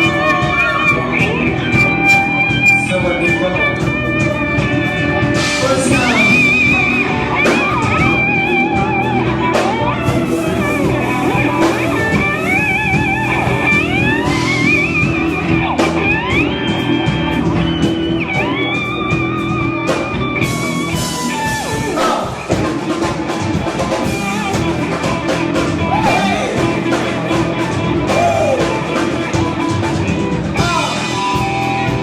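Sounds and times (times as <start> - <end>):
electric guitar bent notes: 0.0 - 32.0
rock band music: 0.0 - 32.0.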